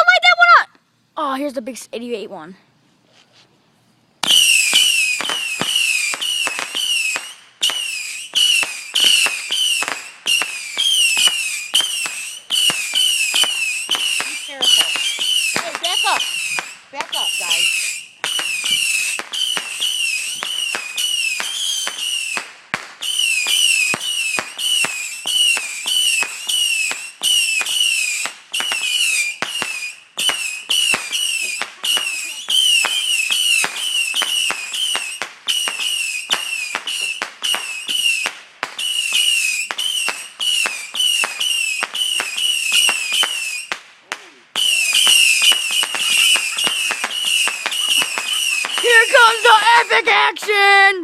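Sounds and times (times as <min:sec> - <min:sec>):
firework cracks: 0:04.2 - 0:51.0
firework whistles: 0:04.2 - 0:51.0.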